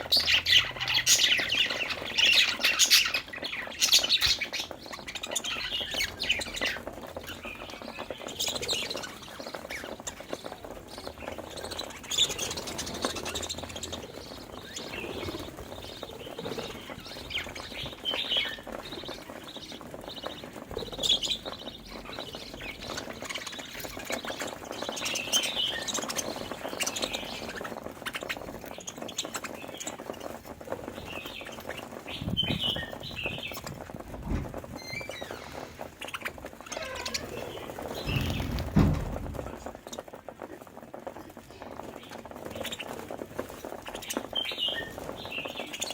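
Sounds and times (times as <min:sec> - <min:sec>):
budgies chirping: 0:00.0 - 0:45.9.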